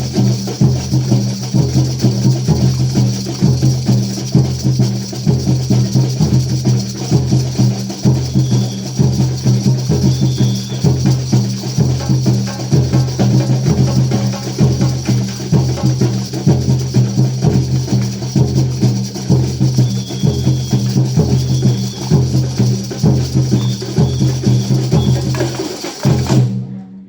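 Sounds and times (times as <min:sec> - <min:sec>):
percussion beat: 0:00.0 - 0:26.7.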